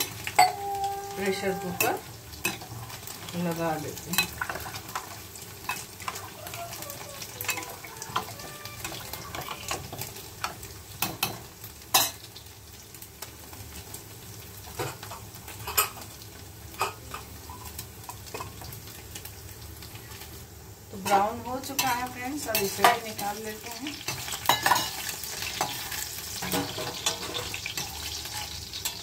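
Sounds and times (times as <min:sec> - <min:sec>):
food frying in oil: 0:00.0 - 0:29.0.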